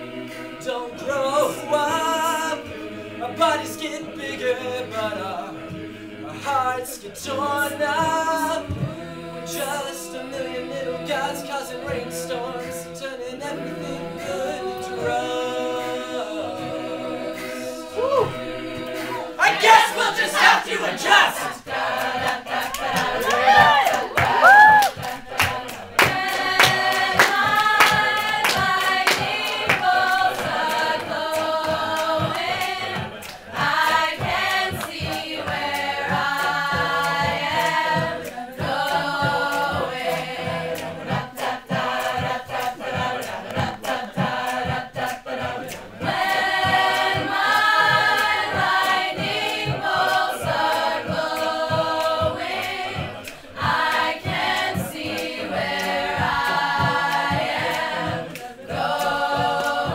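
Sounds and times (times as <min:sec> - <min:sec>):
a cappella group singing: 0:00.0 - 0:59.9.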